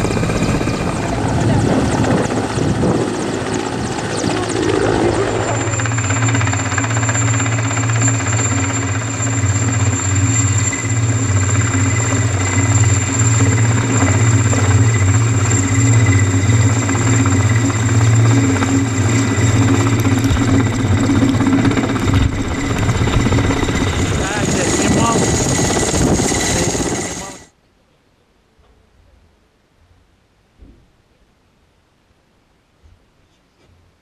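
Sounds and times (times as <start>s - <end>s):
helicopter rotor and engines: 0.0s - 27.6s.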